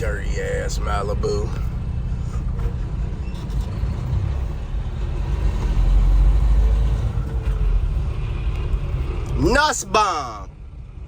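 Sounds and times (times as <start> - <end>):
road noise: 0.0 - 11.0
truck engine rumble: 0.0 - 11.0.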